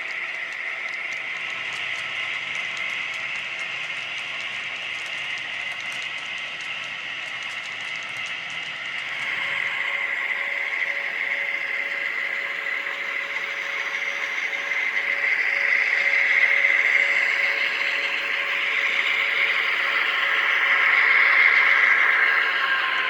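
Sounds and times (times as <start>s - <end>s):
model train whine and hum: 0.0s - 23.0s.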